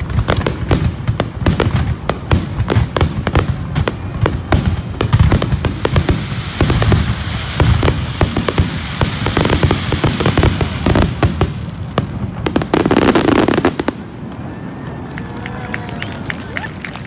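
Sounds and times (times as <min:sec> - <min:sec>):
firework crackle: 0:00.0 - 0:17.0.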